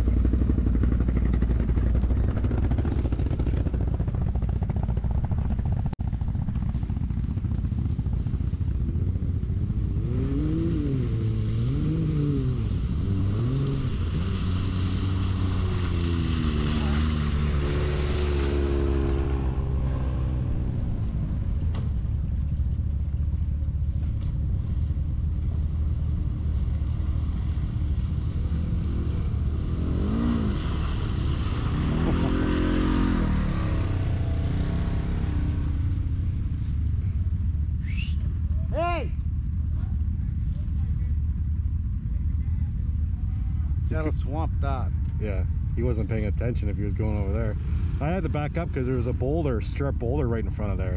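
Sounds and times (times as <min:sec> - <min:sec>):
atv engine revving: 0:00.0 - 0:22.6, 0:23.3 - 0:37.2, 0:45.8 - 0:50.9.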